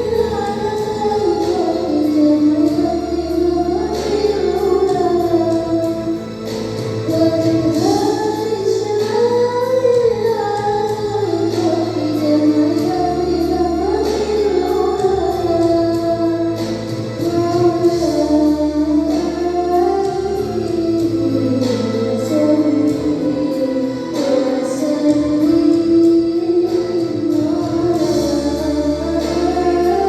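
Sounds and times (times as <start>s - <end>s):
low accompaniment notes: 0.0s - 30.0s.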